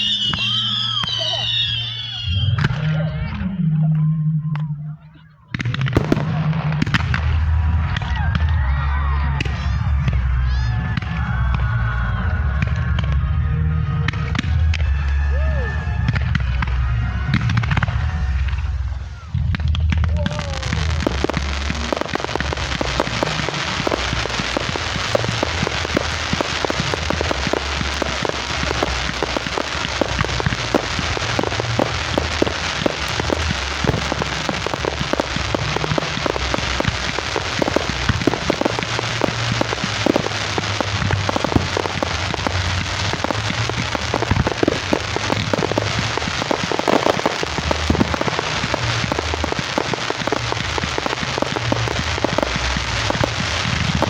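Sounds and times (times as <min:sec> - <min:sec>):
fireworks crackling: 0:00.0 - 0:03.5, 0:04.6 - 0:54.0
low rumble: 0:02.4 - 0:54.0.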